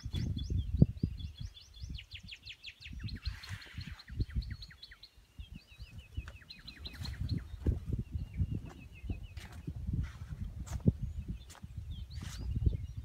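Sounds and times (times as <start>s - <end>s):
songbirds chirping: 0.0s - 13.0s
wind buffeting: 0.0s - 13.0s.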